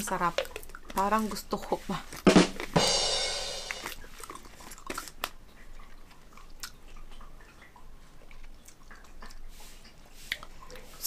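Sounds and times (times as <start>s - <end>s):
person chewing gummies: 0.0s - 11.0s.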